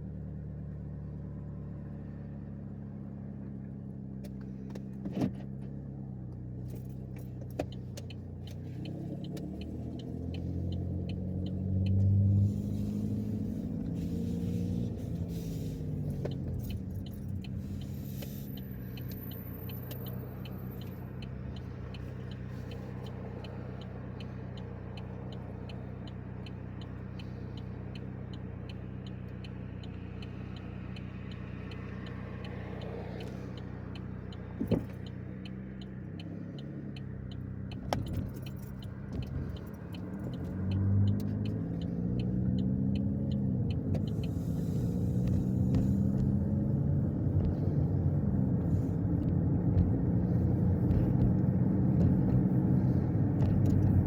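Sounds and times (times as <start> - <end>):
car engine running: 0.0 - 54.0
light ticking: 7.0 - 14.2, 14.9 - 54.0.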